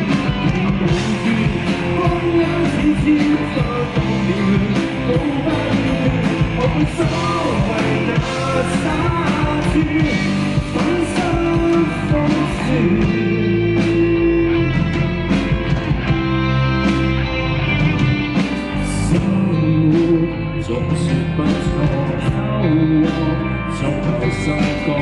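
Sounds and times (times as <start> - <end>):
electric guitar: 0.0 - 25.0
live band playing pop-rock: 0.0 - 25.0.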